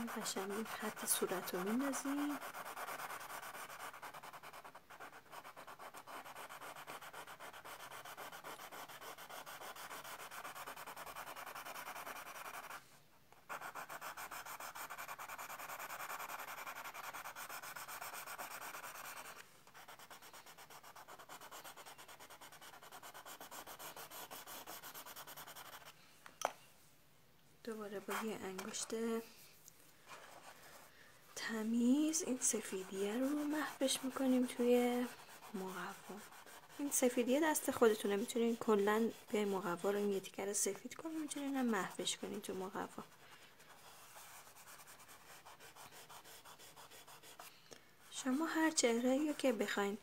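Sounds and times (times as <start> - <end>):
colored pencil scratching on card: 0.0 - 12.8, 13.4 - 26.0, 27.8 - 29.2, 30.1 - 47.5, 48.1 - 49.8.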